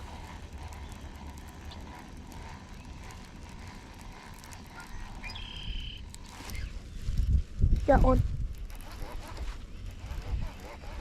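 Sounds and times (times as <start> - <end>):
fishing reel ticking: 0.0 - 6.8, 7.8 - 11.0
wind rumble on microphone: 0.0 - 11.0.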